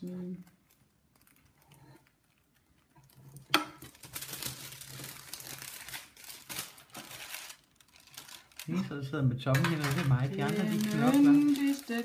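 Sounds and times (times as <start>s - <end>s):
rustling and crinkling: 0.0s - 8.9s, 9.6s - 12.0s.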